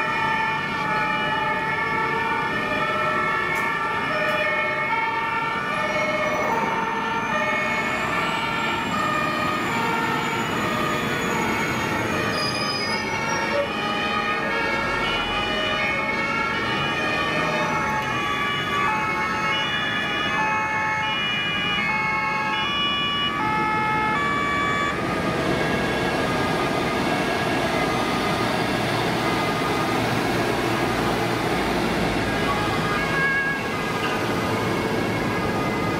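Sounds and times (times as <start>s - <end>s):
passing vehicle engines and tyres: 0.0s - 35.9s
two-tone emergency sirens: 0.0s - 35.9s.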